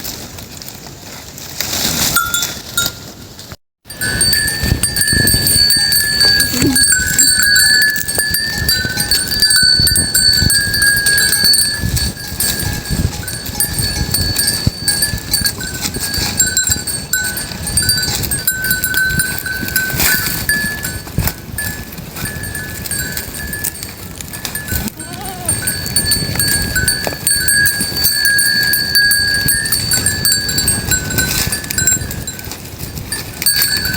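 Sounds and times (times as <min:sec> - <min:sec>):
animals shuffling and knocking: 0:00.0 - 0:33.9
goat bells ringing: 0:02.0 - 0:33.9.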